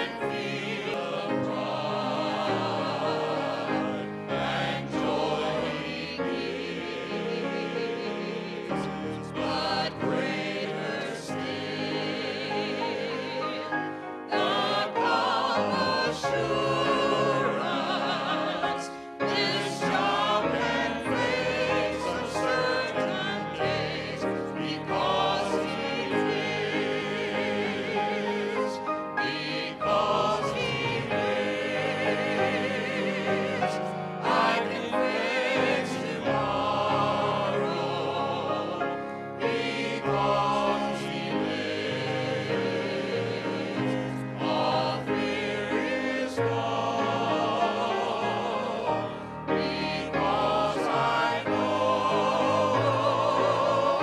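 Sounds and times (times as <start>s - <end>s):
male vocal group singing in harmony: 0.0s - 54.0s
piano accompaniment: 0.0s - 54.0s.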